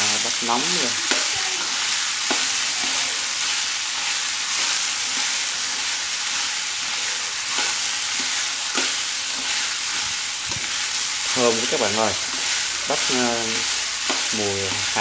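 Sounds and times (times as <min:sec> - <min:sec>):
corn sizzling in hot oil: 0:00.0 - 0:15.0
metal spatula scraping wok: 0:00.5 - 0:15.0.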